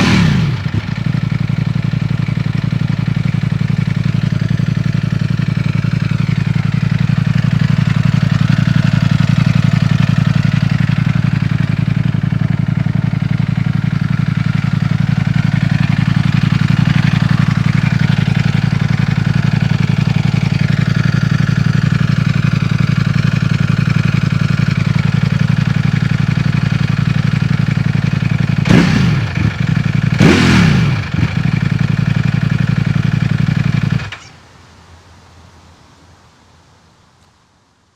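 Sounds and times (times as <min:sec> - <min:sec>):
motorcycle engine running loudly: 0:00.0 - 0:34.3.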